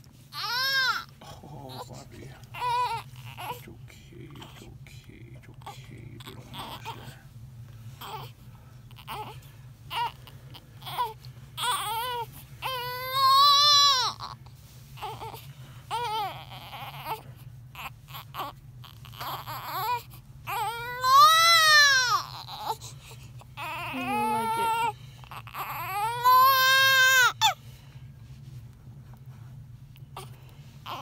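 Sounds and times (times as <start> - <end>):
newborn baby crying: 0.3 - 3.7, 5.5 - 7.2, 8.0 - 27.6, 30.2 - 31.0.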